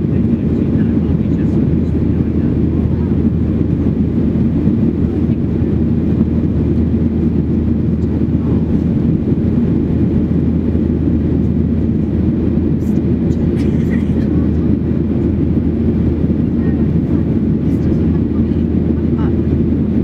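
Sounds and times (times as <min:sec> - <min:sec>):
airplane cabin drone: 0:00.0 - 0:20.0.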